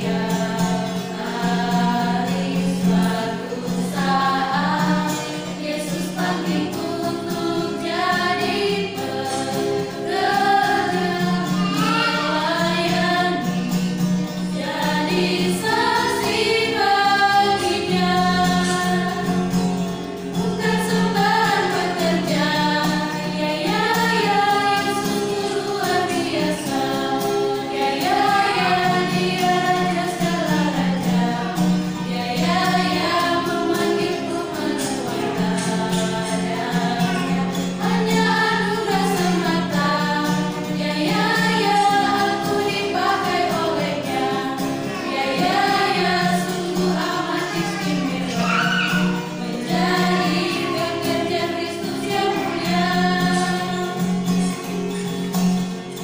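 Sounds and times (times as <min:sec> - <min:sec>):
acoustic guitar: 0:00.0 - 0:56.0
women singing a hymn: 0:00.0 - 0:56.0.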